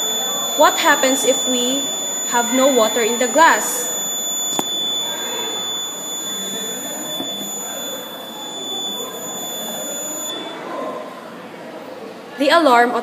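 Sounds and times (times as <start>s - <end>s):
high-pitched buzzer alarm tone: 0.0s - 10.6s.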